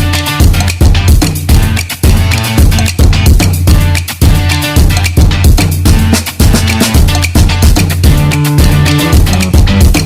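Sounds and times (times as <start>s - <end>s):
guitar bass and drum music: 0.0s - 10.0s.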